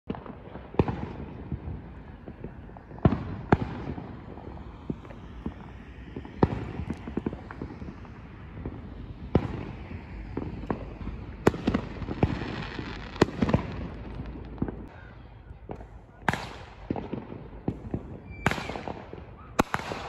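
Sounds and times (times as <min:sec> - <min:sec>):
fireworks crackling pops: 0:00.1 - 0:15.0, 0:15.6 - 0:20.0
fireworks bangs: 0:00.1 - 0:20.0.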